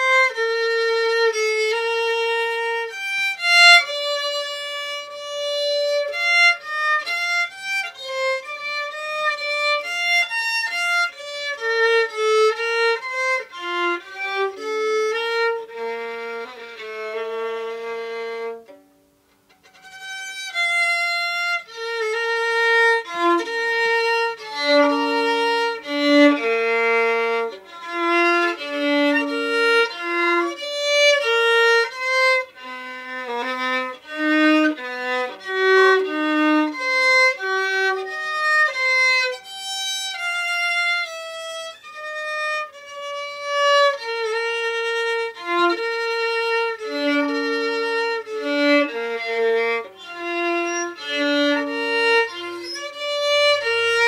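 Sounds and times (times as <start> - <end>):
solo fiddle melody: 0.0 - 54.0.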